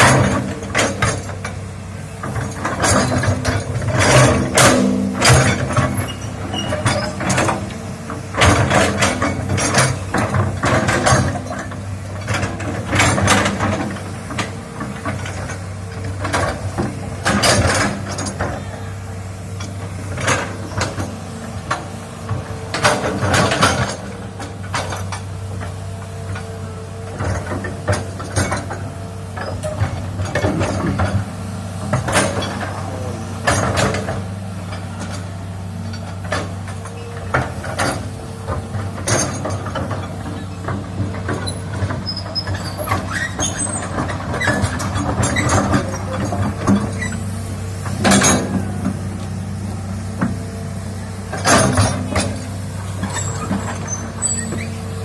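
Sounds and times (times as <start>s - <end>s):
metal clanks and knocks: 0.0s - 18.7s, 19.4s - 49.4s, 51.3s - 54.8s
excavator engine humming: 0.0s - 55.0s.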